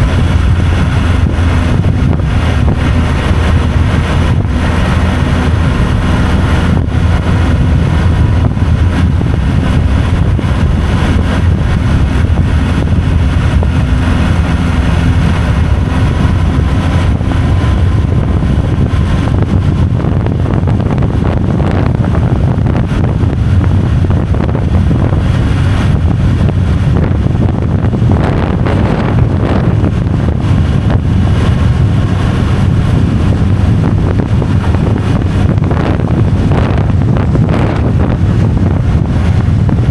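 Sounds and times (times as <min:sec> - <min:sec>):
road noise rumble: 0:00.0 - 0:39.9
wind on microphone: 0:00.0 - 0:39.9.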